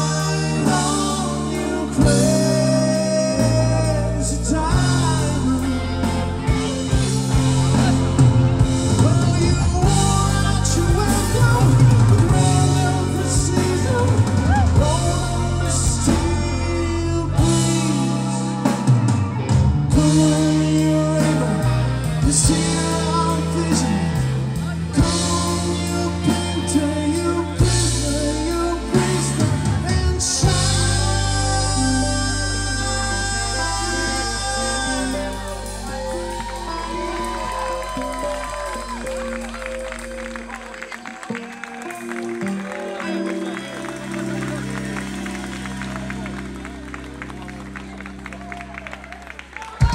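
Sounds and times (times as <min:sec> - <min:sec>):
drum kit: 0:00.0 - 0:40.6
bass guitar: 0:00.0 - 0:49.9
electric guitars: 0:00.0 - 0:49.9
keyboards: 0:00.0 - 0:49.9.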